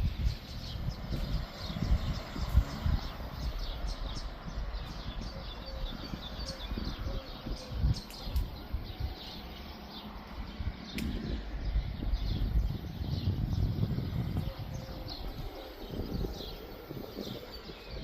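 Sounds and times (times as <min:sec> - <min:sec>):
low rumble: 0:00.0 - 0:18.0
small birds chirping: 0:00.0 - 0:18.0.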